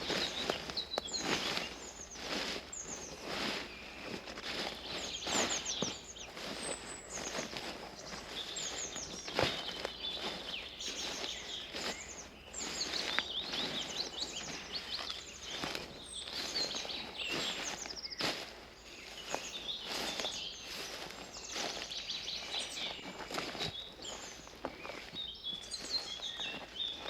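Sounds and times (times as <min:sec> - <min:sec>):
birds twittering and chirping: 0:00.0 - 0:27.0
footsteps on a path: 0:00.0 - 0:27.0.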